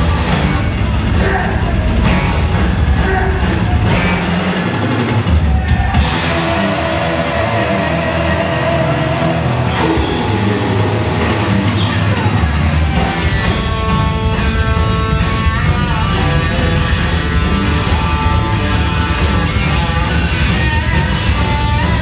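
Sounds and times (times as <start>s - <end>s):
bass guitar: 0.0s - 22.0s
distorted electric guitar: 0.0s - 22.0s
drums and cymbals fast beat: 0.0s - 22.0s.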